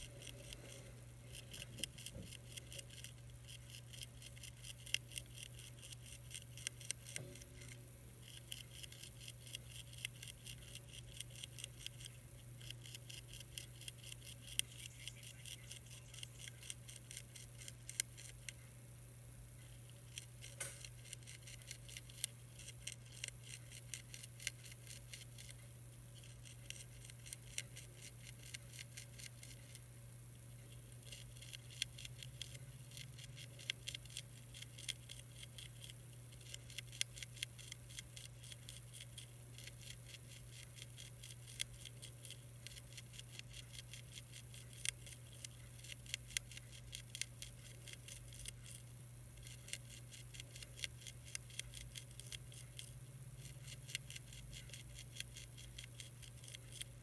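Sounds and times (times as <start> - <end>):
caterpillar chewing leaf: 0.0 - 18.6, 19.6 - 57.0
steady low hum: 0.0 - 57.0.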